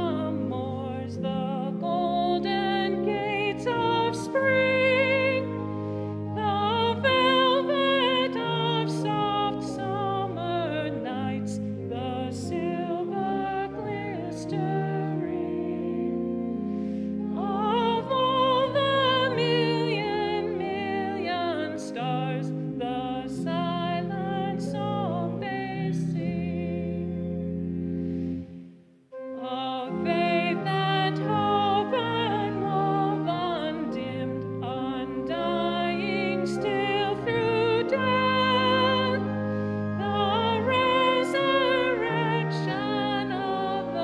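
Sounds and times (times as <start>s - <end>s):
woman singing with vibrato: 0.0s - 5.6s, 6.4s - 15.9s, 17.4s - 27.0s, 29.4s - 44.0s
organ chords: 0.0s - 44.0s.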